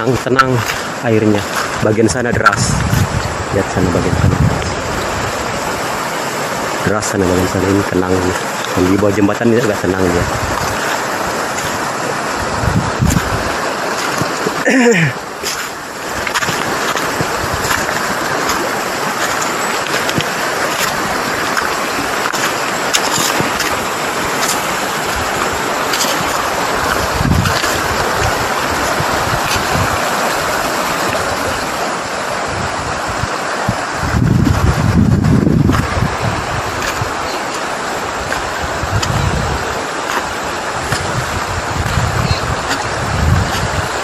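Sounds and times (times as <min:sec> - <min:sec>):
river water flowing: 0:00.0 - 0:44.0.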